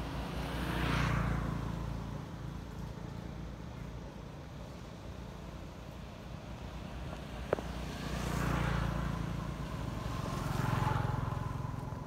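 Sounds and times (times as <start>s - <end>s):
motor vehicles passing: 0.0s - 12.0s.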